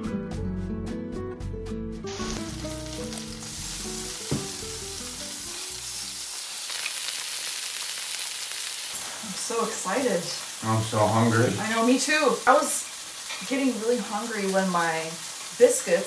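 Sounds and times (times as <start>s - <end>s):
food sizzling on a grill: 2.1s - 16.0s.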